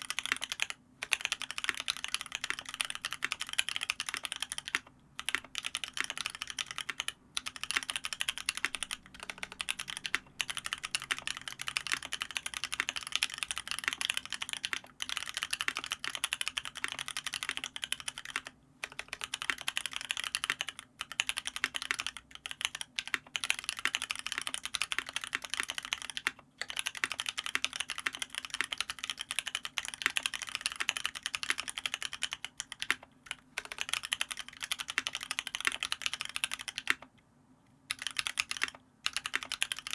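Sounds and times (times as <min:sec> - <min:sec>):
mechanical keyboard typing: 0:00.0 - 0:37.2, 0:37.9 - 0:39.9.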